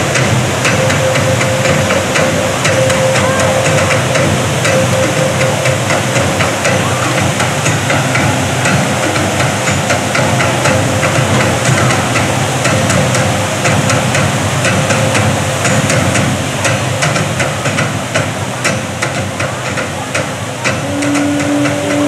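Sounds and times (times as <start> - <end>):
steady low tone: 0.0 - 22.0
waterfall rushing and splashing: 0.0 - 22.0.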